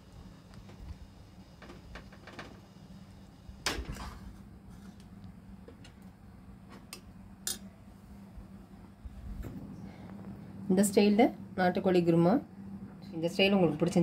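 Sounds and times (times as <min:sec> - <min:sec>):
low hum: 0:00.0 - 0:13.3.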